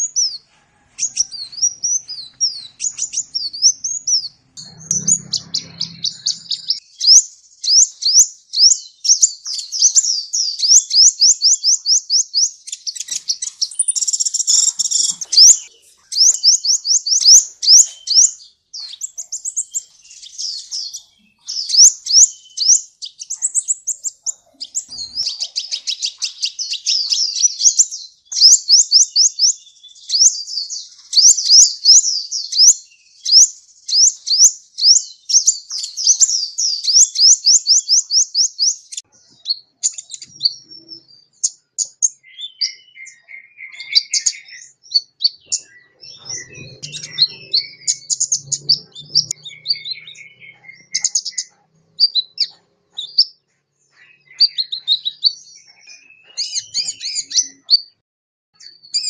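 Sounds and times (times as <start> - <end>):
bird singing and twittering: 0.0 - 58.0, 58.6 - 59.0.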